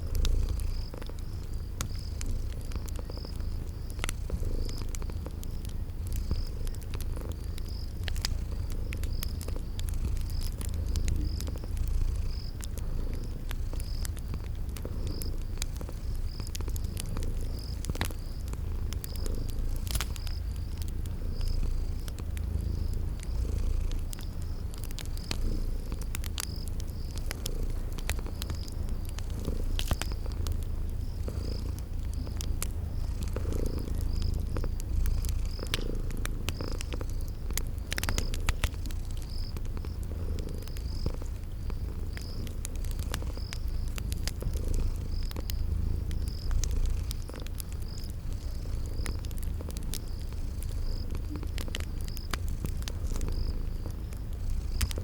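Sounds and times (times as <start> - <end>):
cat purring: 0.0 - 55.0
crickets chirping: 0.0 - 55.0
wood fire crackling: 0.0 - 55.0.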